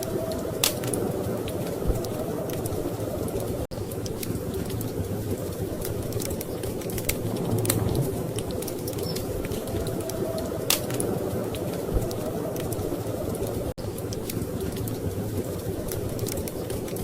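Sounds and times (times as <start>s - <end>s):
storm wind rumble: 0.0s - 13.7s
wood fire crackling: 0.0s - 17.0s.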